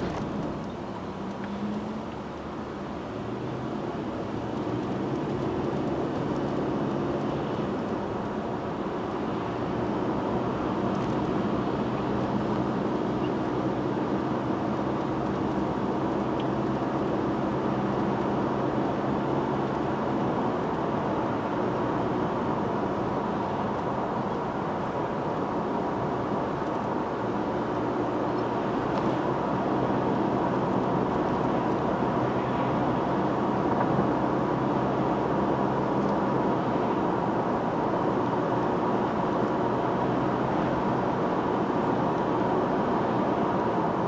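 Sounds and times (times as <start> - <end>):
car road and engine noise: 0.0 - 44.0.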